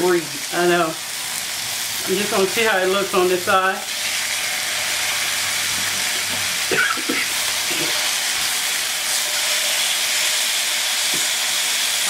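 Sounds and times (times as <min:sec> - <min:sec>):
chicken sizzling in a grill pan: 0:00.0 - 0:12.0.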